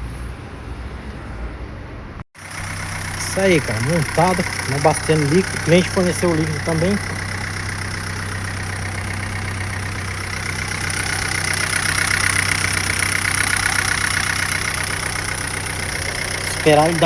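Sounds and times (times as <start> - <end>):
car engine idling: 2.4 - 17.0
rapid metallic clatter: 2.6 - 17.0.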